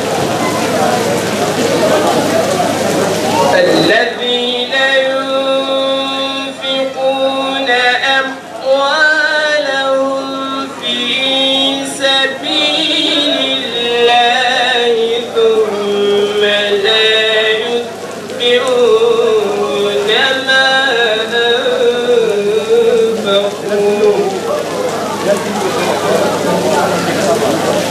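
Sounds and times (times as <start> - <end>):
man chanting melismatic notes: 3.3 - 27.9.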